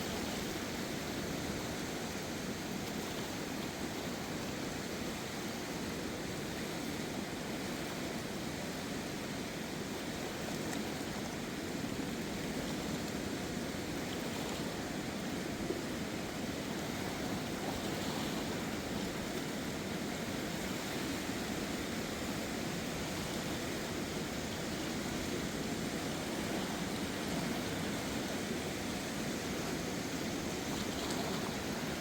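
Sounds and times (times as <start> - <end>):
river rushing in flood: 0.0 - 32.0.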